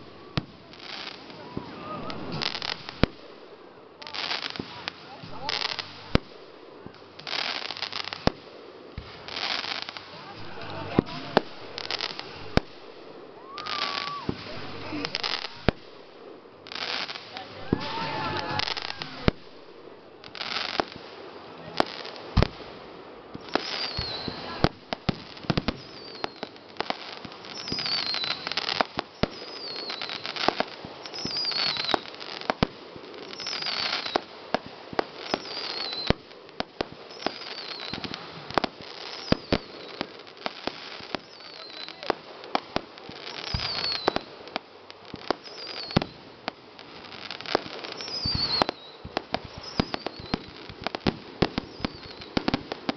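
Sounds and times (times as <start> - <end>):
fireworks bangs with crackling: 0.0 - 52.9.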